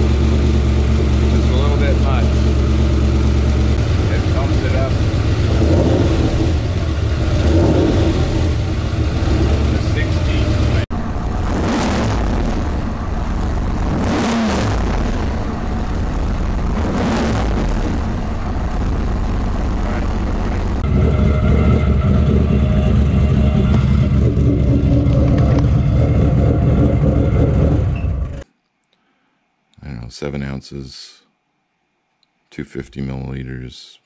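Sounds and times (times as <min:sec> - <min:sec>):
car engine running: 0:00.0 - 0:28.4.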